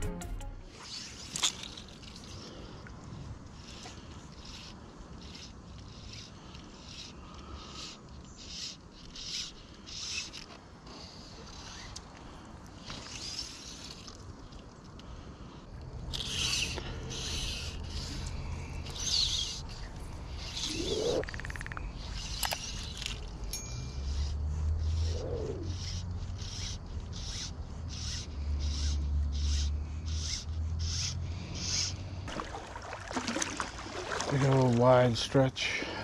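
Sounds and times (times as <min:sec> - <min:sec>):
fly line rasping through guides: 0:00.7 - 0:35.8.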